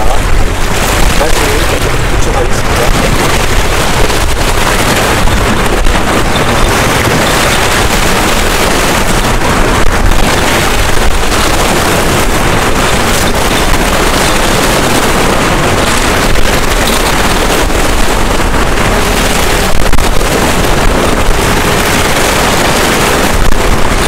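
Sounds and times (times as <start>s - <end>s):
sea washing against rocks: 0.0s - 24.0s
wind buffeting microphone: 0.0s - 24.0s.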